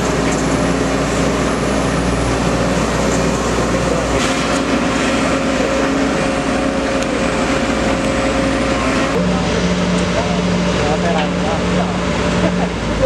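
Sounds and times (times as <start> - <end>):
diesel engine running: 0.0 - 13.0
hydraulic whine: 0.0 - 13.0.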